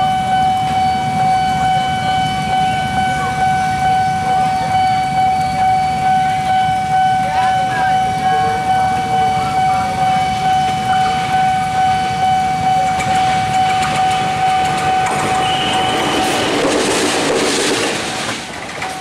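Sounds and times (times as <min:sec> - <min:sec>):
level crossing warning bell ringing: 0:00.0 - 0:18.1
locomotive passing: 0:00.0 - 0:19.0.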